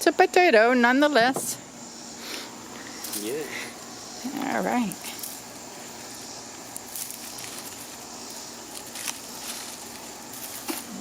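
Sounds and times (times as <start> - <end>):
steady faint hiss: 0.0 - 11.0
soil and dry plants rustling: 2.2 - 11.0.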